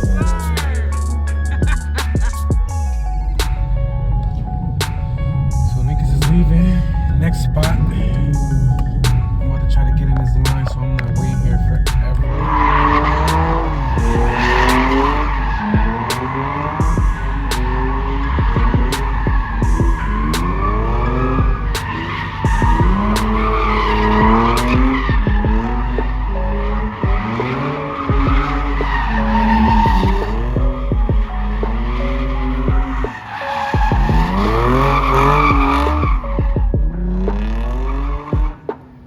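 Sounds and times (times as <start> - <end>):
car engine revving: 0.0 - 39.0
tyres screeching: 0.0 - 39.0.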